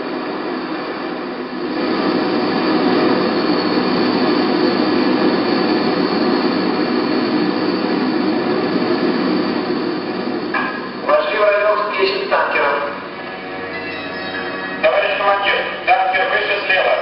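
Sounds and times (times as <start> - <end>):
faint high whine: 0.0 - 17.0
jet aircraft rushing noise: 0.0 - 17.0.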